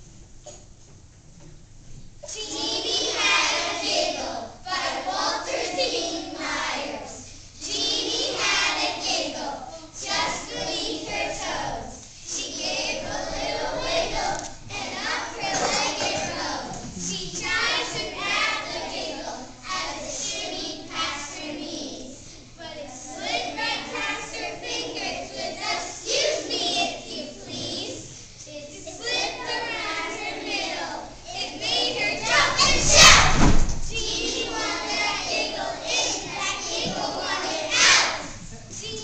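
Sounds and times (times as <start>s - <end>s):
children reciting in chorus: 2.2s - 39.0s.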